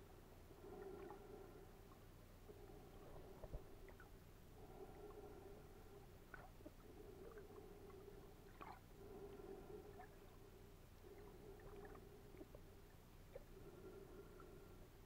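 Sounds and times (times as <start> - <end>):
faint underwater hum: 0.0 - 15.0.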